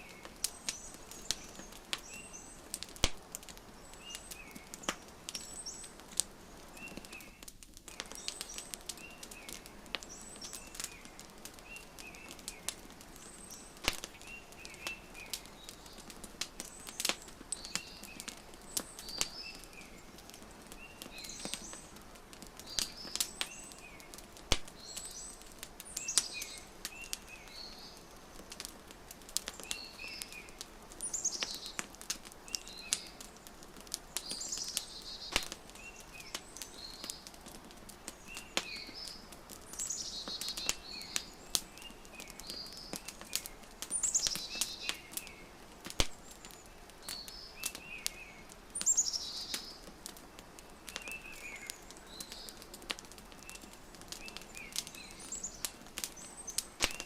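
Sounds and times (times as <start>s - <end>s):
small birds chirping: 0.0s - 57.0s
wood fire crackling: 0.0s - 57.0s.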